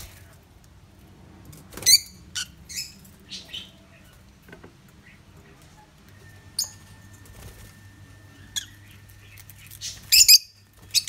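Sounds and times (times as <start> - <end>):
faint low hum: 0.0 - 11.0
lovebirds chirping: 1.8 - 11.0.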